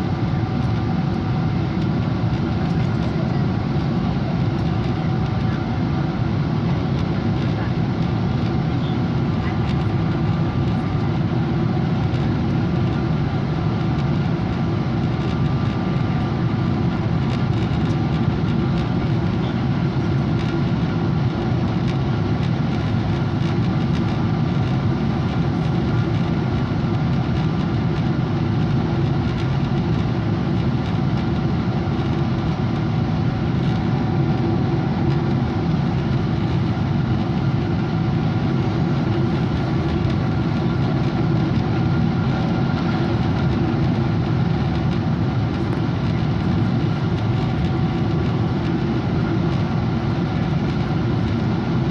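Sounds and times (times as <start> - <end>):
airliner engines humming: 0.0 - 51.9.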